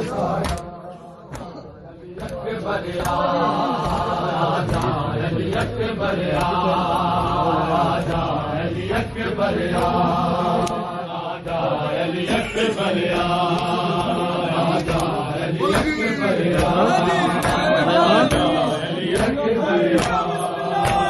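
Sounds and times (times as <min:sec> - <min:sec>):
men chanting in unison: 0:00.0 - 0:21.0.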